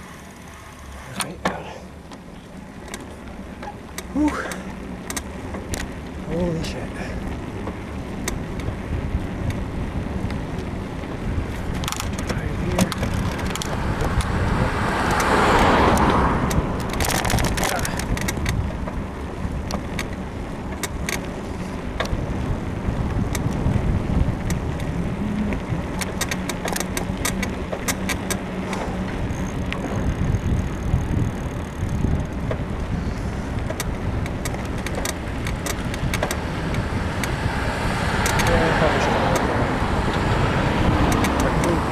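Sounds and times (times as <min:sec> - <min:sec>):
bicycle suspension creaks and clicks: 0:00.0 - 0:41.9
wind and tyre noise: 0:00.0 - 0:41.9.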